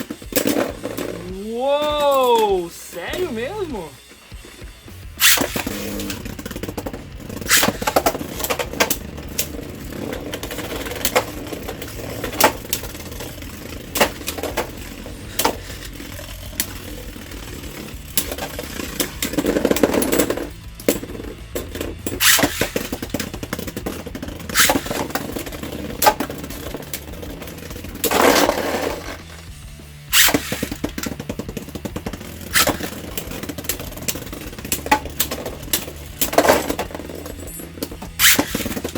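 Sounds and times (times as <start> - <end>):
grinding scrapes: 0.0 - 1.5, 3.0 - 38.9
spinning tops clashing: 0.0 - 38.9
spinning tops whirring: 0.0 - 38.9.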